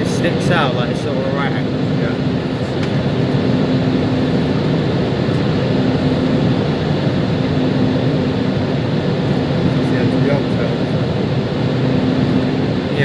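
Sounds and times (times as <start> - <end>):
aircraft cabin engine and airflow: 0.0 - 13.0
low hum: 0.0 - 13.0.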